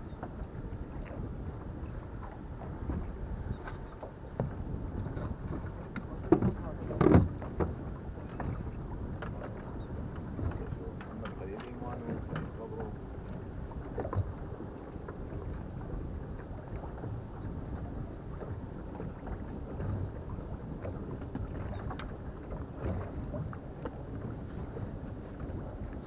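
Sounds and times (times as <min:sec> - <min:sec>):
water around boat: 0:00.0 - 0:26.0
wind noise on microphone: 0:00.0 - 0:26.0.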